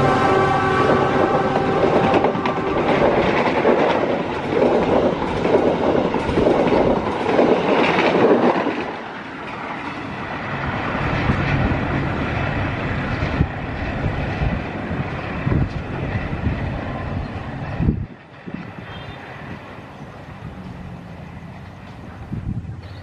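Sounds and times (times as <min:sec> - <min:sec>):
low rumble of train: 0:00.0 - 0:23.0
train wheels running over rails: 0:00.0 - 0:23.0.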